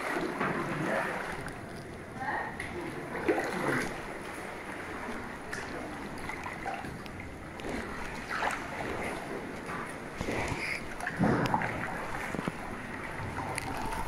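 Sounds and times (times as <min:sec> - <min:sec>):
kayak paddles splashing: 0:00.0 - 0:14.0
water lapping around hulls: 0:00.0 - 0:14.0.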